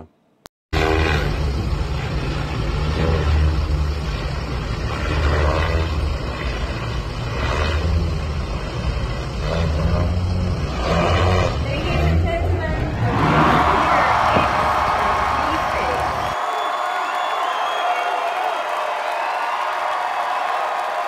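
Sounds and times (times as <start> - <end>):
rotors droning: 0.8 - 21.0.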